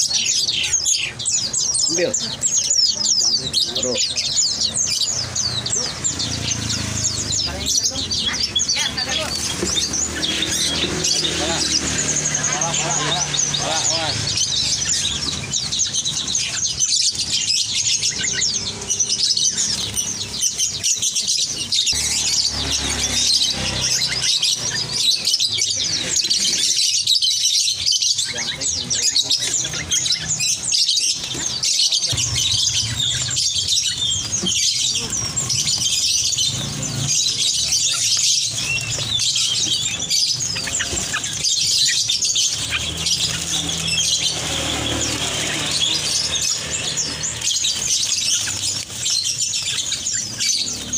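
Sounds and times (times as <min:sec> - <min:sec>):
songbirds chirping and twittering: 0:00.0 - 0:50.9.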